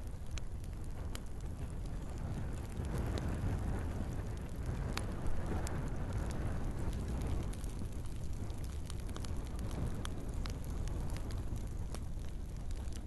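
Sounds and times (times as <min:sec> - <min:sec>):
fire flames rumbling: 0:00.0 - 0:13.0
wood crackling and popping: 0:00.0 - 0:13.0.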